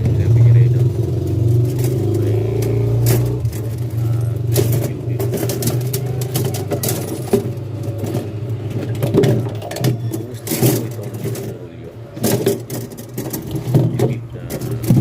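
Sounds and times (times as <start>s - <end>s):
handling clicks and knocks: 0.0s - 15.0s
low motor hum: 0.0s - 15.0s.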